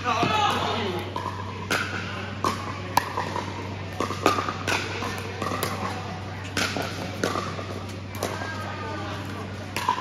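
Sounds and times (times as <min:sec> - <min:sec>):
ball bouncing on court: 0:00.1 - 0:08.6, 0:09.6 - 0:10.0.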